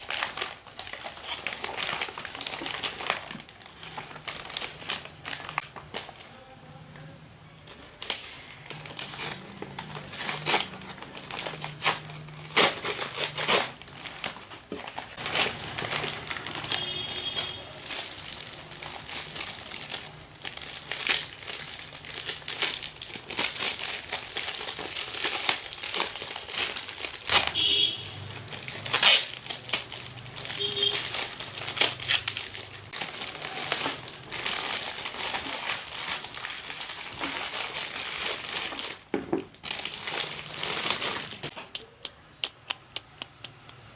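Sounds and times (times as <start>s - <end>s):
packaging crinkling: 0.0s - 6.5s, 7.6s - 41.5s.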